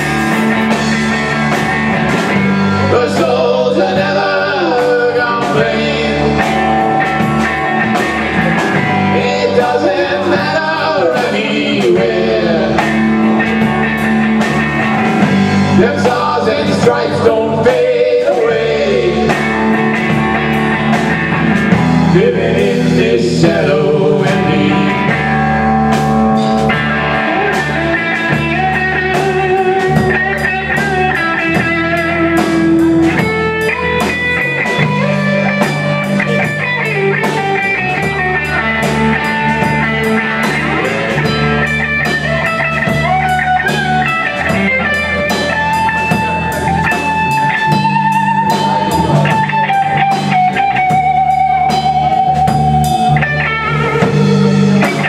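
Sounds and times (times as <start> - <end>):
bass line: 0.0 - 55.0
drum kit beat: 0.0 - 55.0
electric guitar lead: 0.0 - 55.0.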